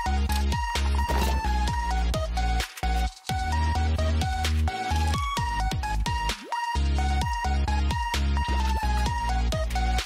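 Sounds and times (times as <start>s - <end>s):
synth music with heavy bass: 0.0s - 10.0s.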